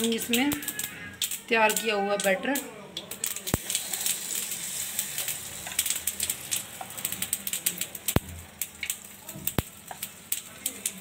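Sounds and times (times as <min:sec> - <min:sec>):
batter sizzling: 0:00.0 - 0:11.0
hot oil crackling and popping: 0:00.0 - 0:11.0.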